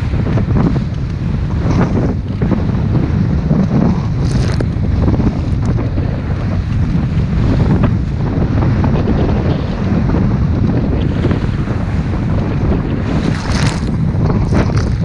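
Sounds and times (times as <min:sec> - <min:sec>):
water splashing along hull: 0:00.0 - 0:15.0
wind on microphone: 0:00.0 - 0:15.0.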